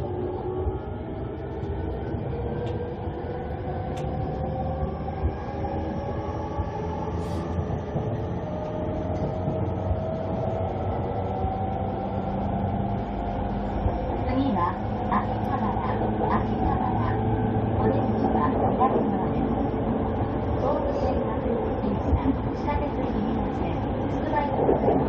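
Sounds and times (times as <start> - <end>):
wheel and rail rumble: 0.0 - 25.0.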